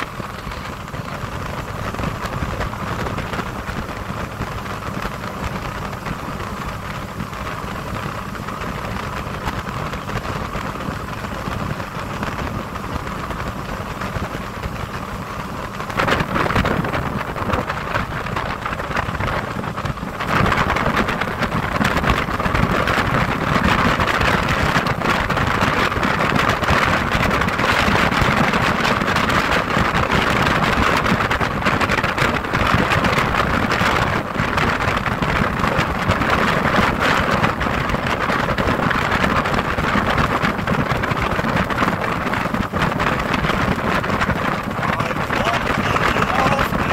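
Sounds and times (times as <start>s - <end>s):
motorboat engine drone: 0.0s - 46.9s
wind rushing over microphone: 0.0s - 46.9s.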